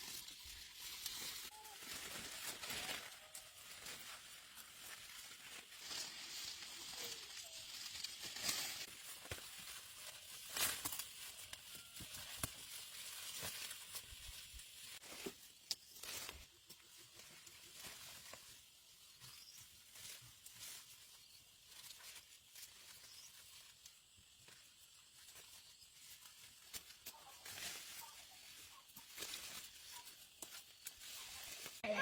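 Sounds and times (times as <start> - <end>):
leaves rustling and crackling: 0.0 - 32.0.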